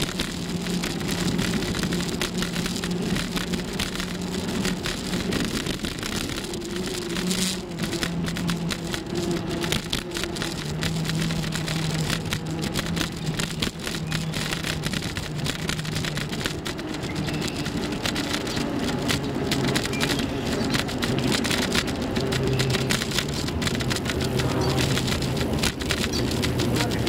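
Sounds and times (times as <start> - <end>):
bicycle road noise: 0.0 - 27.0
wind buffeting microphone: 0.0 - 27.0.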